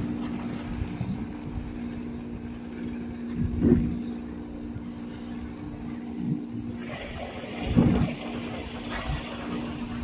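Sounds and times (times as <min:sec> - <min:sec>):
boat engine humming: 0:00.0 - 0:10.0
wind buffeting microphone: 0:00.0 - 0:10.0.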